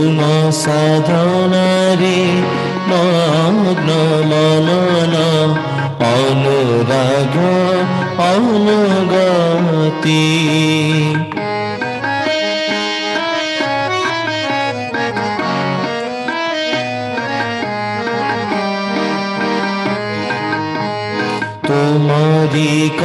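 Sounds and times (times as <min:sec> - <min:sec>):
harmonium melody: 0:00.0 - 0:23.0
tabla beat: 0:00.0 - 0:23.0.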